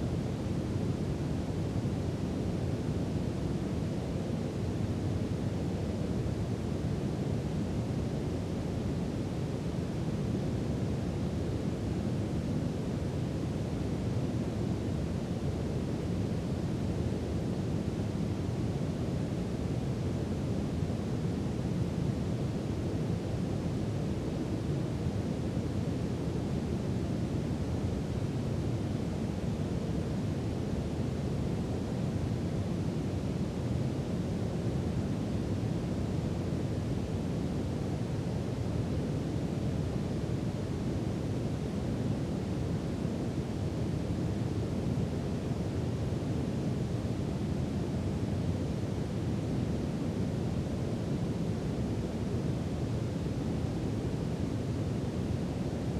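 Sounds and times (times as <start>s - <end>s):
deep brown noise hiss: 0.0s - 55.9s.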